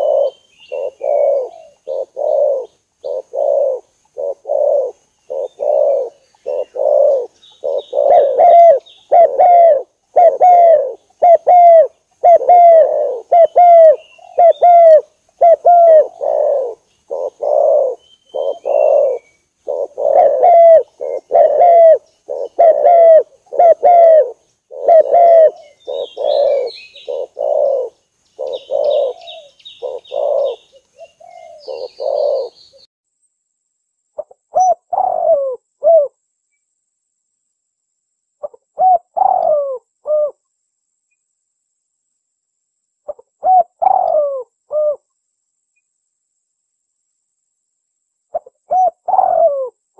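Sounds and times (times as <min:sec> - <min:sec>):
dove cooing: 0:00.0 - 0:32.8, 0:34.2 - 0:36.2, 0:38.4 - 0:40.4, 0:43.1 - 0:45.1, 0:48.3 - 0:49.8.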